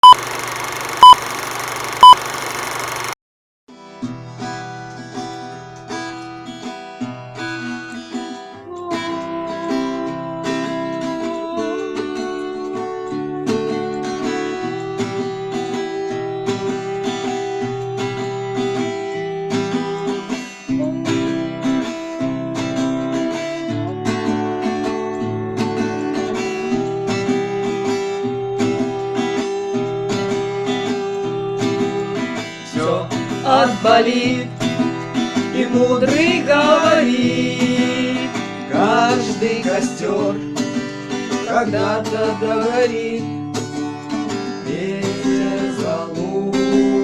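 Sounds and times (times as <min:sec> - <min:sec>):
acoustic guitar picked chords: 0:03.9 - 0:47.0.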